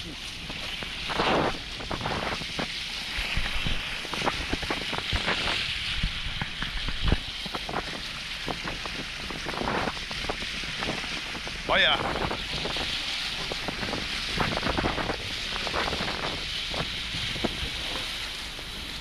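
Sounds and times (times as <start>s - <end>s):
sea noise: 0.0s - 19.0s
wind buffeting microphone: 0.0s - 19.0s.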